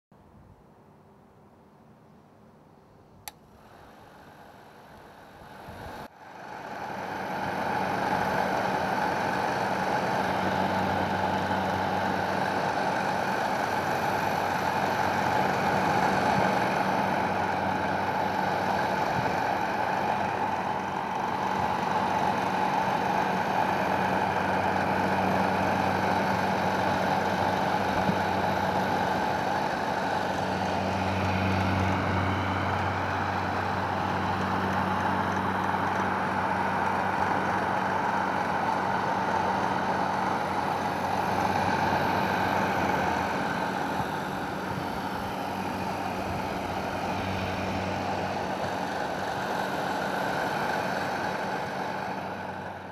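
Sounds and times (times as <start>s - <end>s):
hair dryer running: 3.3s - 52.9s.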